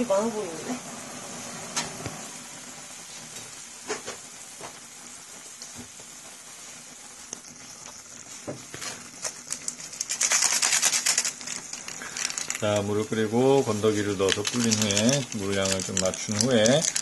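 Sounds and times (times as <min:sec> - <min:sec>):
pot of noodles boiling: 0:00.0 - 0:17.0.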